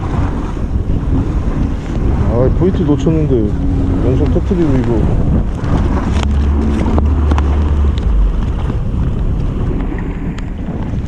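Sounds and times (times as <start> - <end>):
outboard motors running: 0.0 - 11.0
water rushing: 0.0 - 11.0
wind buffeting microphone: 0.0 - 11.0.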